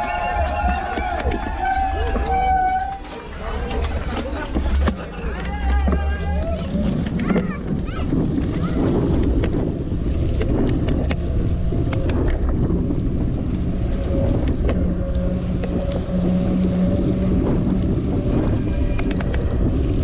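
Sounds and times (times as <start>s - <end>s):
bike clicks and rattles: 0.0s - 20.0s
wind buffeting microphone: 0.0s - 20.0s.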